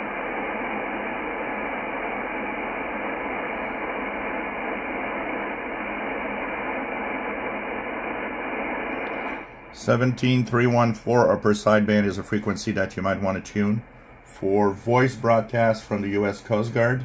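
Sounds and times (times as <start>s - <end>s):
shortwave radio hiss: 0.0s - 17.0s.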